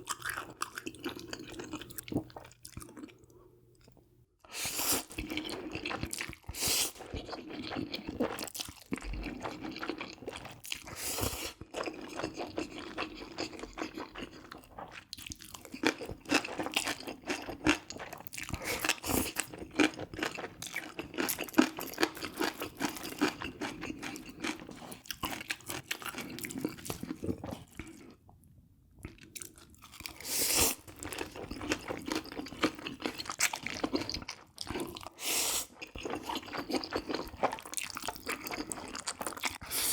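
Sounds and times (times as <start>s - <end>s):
person chewing crisp food: 0.0s - 28.2s, 29.0s - 39.9s.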